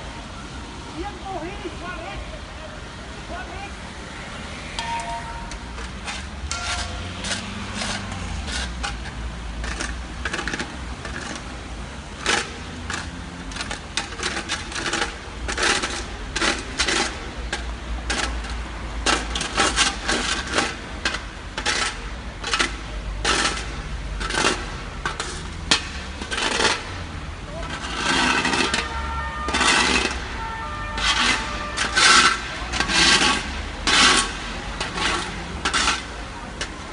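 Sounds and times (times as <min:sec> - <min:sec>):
fire crackling and popping: 0:04.8 - 0:36.9.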